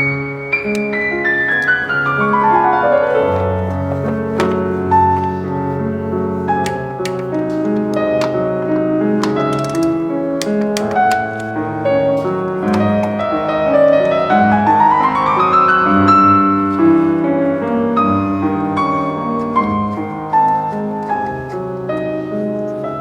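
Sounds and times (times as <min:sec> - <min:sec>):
background piano music: 0:00.0 - 0:23.0.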